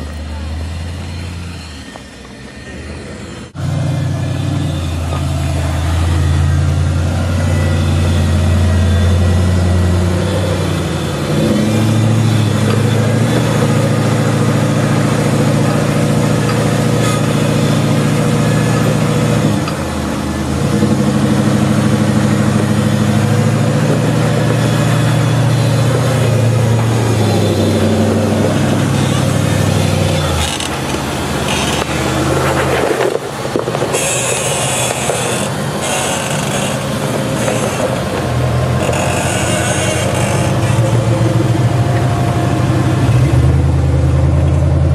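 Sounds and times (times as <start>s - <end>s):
off-road vehicle engine under load: 0.0s - 44.9s.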